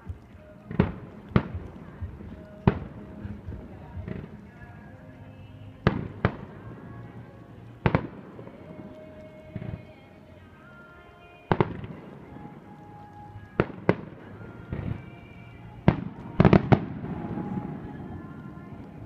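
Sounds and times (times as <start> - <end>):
fireworks bangs with echo: 0.0 - 5.1, 5.8 - 10.1, 10.7 - 19.0.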